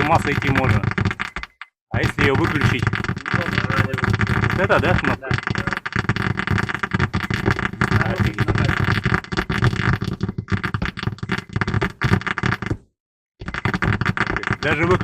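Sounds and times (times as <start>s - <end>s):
car speakers crackling and rasping: 0.0s - 15.0s.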